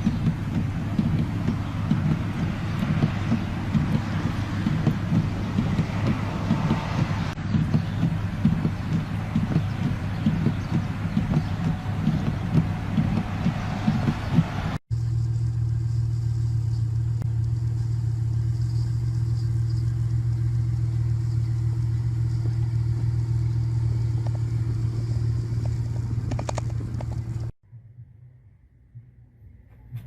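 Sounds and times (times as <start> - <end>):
motor humming: 0.0 - 27.5.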